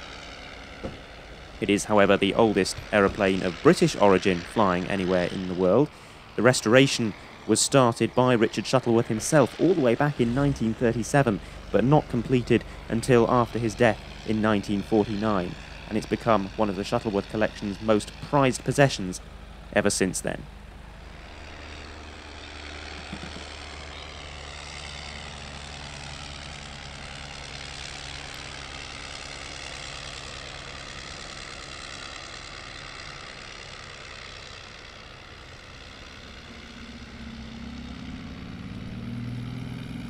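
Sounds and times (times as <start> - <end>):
aircraft rotary engine flying past: 0.0 - 40.0.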